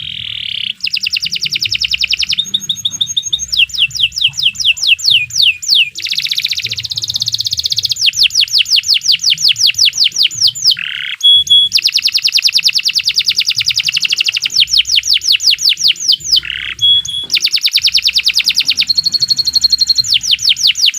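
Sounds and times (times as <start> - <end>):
canary singing trills: 0.0 - 20.9.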